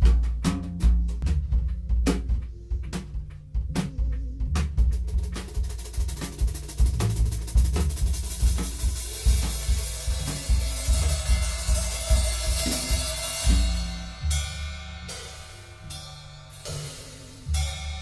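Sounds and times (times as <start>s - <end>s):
drum kit beat: 0.0s - 18.0s
held bass notes: 0.0s - 18.0s.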